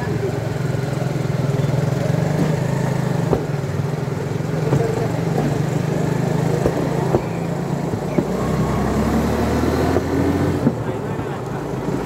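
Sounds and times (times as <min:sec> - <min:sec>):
rail cart engine running: 0:00.0 - 0:12.0.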